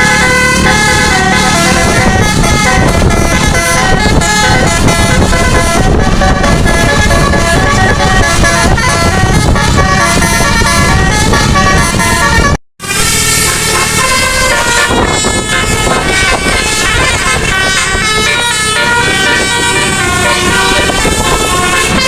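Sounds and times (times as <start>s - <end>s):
musical air horn playing a tune: 0.0s - 22.0s.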